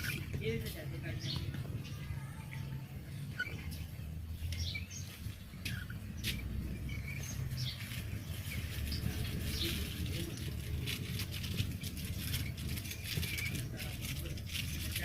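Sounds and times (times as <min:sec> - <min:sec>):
budgerigars chirping: 0:00.0 - 0:02.0, 0:03.1 - 0:15.0
steady low rumble: 0:00.0 - 0:15.0.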